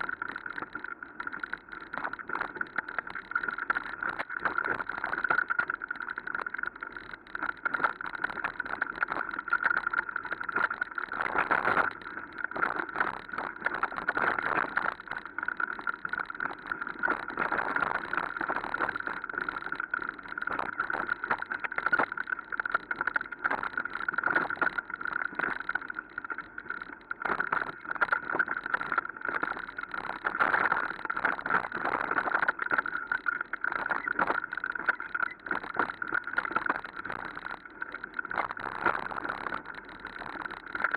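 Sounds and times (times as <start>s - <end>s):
steady high-pitched buzz: 0.0s - 40.9s.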